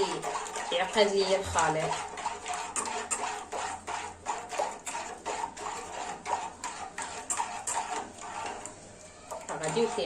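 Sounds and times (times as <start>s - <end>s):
utensil scraping a saucepan: 0.0s - 10.0s.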